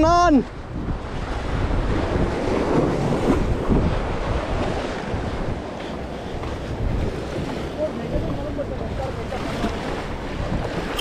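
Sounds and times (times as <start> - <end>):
sea surf washing against rocks: 0.0 - 11.0
wind rumbling on microphone: 0.0 - 11.0.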